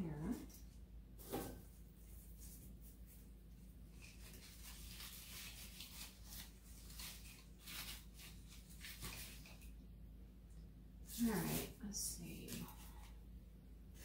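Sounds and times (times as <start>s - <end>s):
rustling and scraping of artificial greenery: 0.0s - 9.8s, 11.0s - 14.0s.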